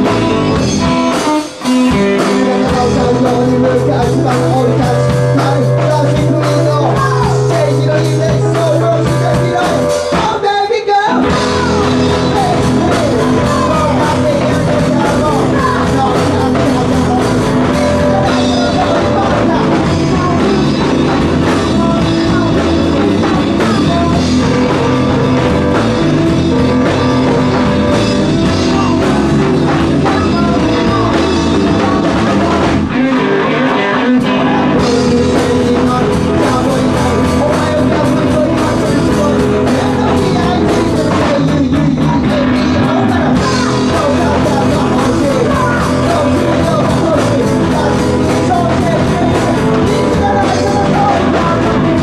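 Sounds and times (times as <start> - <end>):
bass guitar: 0.0 - 52.0
distorted electric guitar: 0.0 - 52.0
drum kit: 0.0 - 52.0
person singing: 0.0 - 52.0.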